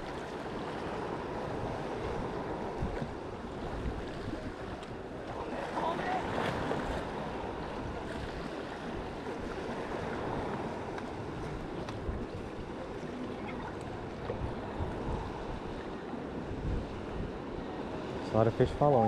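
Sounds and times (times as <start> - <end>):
ocean surf on rocks: 0.0 - 19.0
wind buffeting microphone: 0.0 - 19.0.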